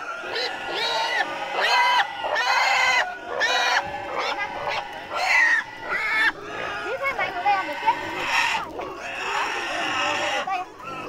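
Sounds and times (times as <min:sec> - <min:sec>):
pig squealing: 0:00.0 - 0:11.0.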